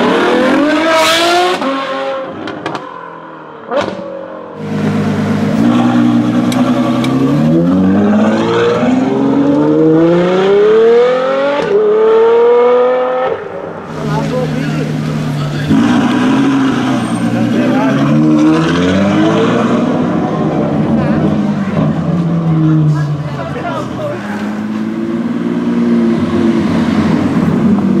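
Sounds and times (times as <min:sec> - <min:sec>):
sports car engine accelerating: 0:00.0 - 0:28.0.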